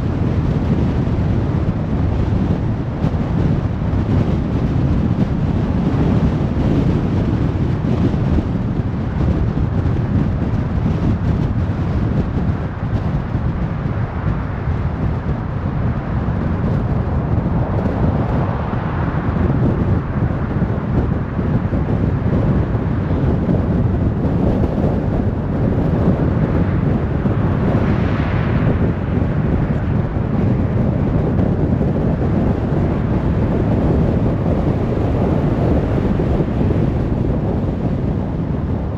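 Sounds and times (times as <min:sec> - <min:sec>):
highway traffic rushing: 0:00.0 - 0:38.9.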